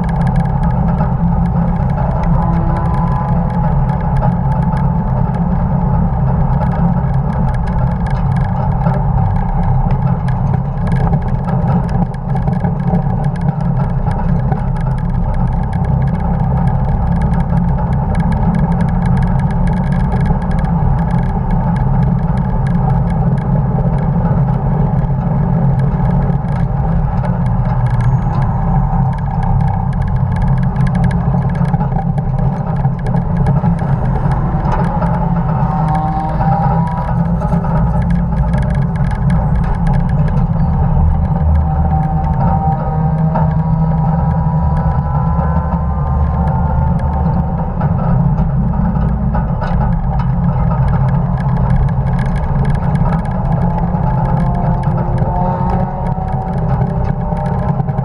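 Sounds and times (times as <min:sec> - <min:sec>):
truck engine running under load: 0:00.0 - 0:58.0.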